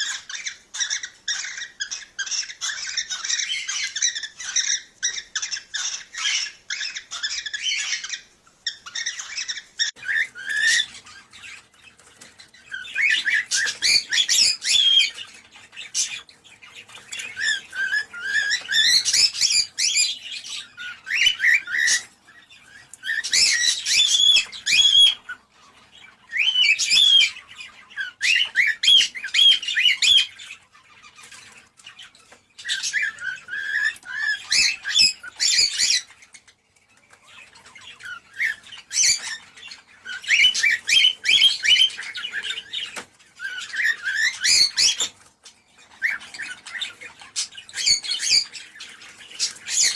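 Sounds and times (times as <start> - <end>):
cockatiels chattering and warbling: 0.0 - 49.9.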